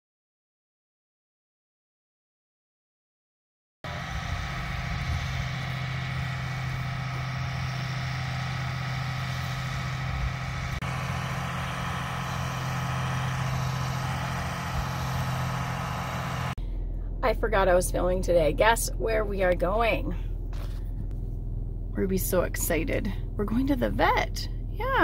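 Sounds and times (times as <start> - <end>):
low engine hum: 3.9 - 25.0
road noise: 3.9 - 25.0.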